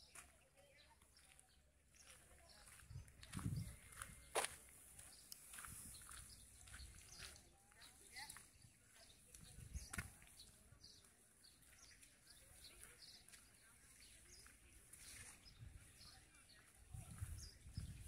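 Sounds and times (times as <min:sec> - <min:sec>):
faint street ambience: 0:00.0 - 0:18.0
small birds chirping: 0:00.0 - 0:18.0.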